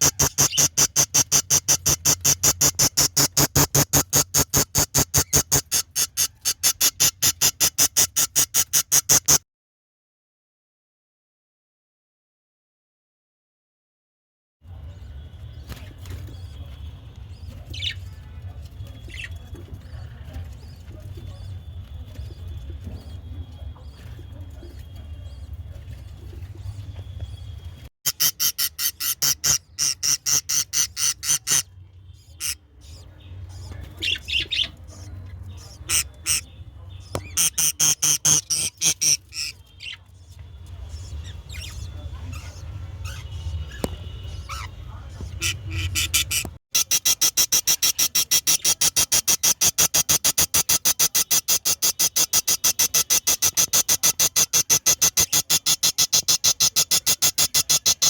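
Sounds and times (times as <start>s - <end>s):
birds chirping and squawking: 0.0s - 9.4s, 15.1s - 58.0s.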